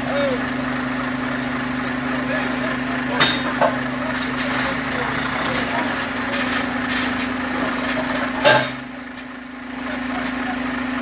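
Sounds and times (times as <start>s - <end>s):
diesel truck idling: 0.0s - 11.0s.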